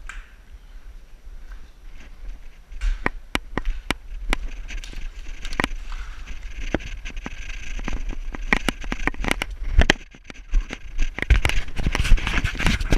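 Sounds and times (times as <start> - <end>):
wind rumble on microphone: 0.0 - 12.9
footsteps on rubble and gravel: 1.4 - 12.9
knocks and scrapes of climbing: 1.4 - 12.9.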